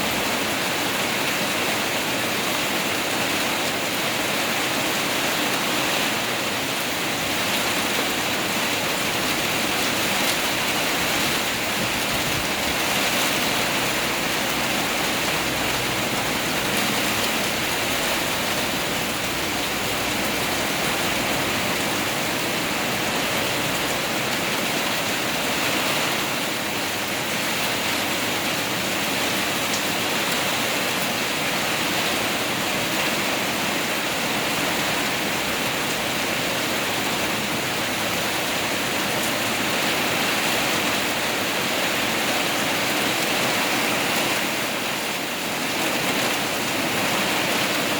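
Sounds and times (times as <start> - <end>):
heavy rain pouring: 0.0 - 47.9
wind: 0.0 - 47.9.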